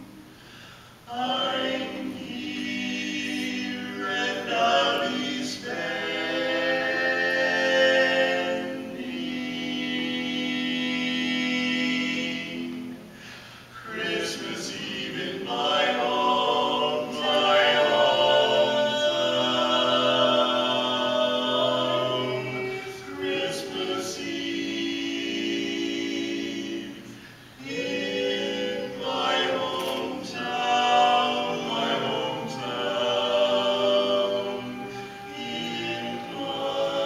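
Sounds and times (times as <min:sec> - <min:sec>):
men singing a cappella harmony: 0:01.0 - 0:37.0.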